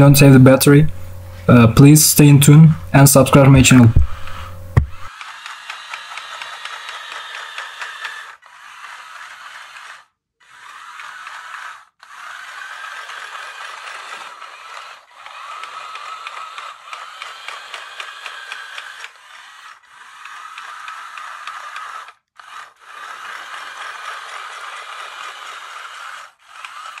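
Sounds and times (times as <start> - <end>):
electric motors whining: 0.0 - 27.0
plastic tracks rattling: 5.1 - 27.0.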